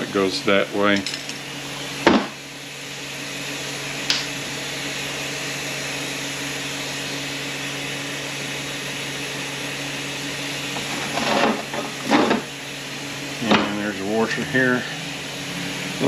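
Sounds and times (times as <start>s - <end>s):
machine whirring: 0.0s - 16.0s.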